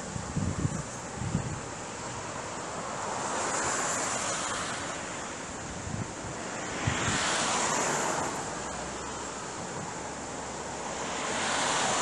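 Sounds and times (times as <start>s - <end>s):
wind rushing through trees: 0.0s - 12.0s.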